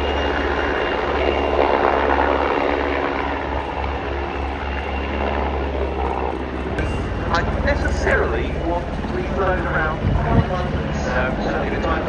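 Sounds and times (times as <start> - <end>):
helicopter engine noise: 0.0 - 12.0
helicopter rotor beating: 0.0 - 12.0.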